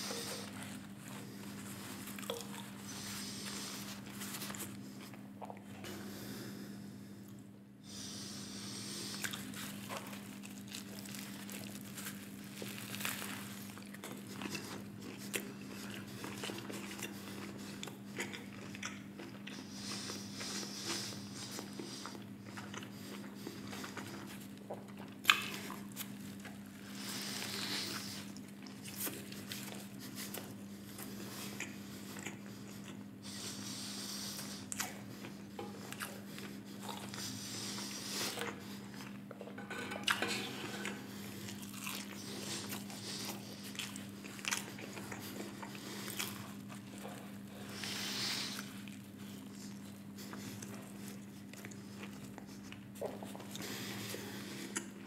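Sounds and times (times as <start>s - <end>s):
crunchy chewing: 0.0s - 6.0s, 8.6s - 55.0s
steady low hum: 0.0s - 55.0s.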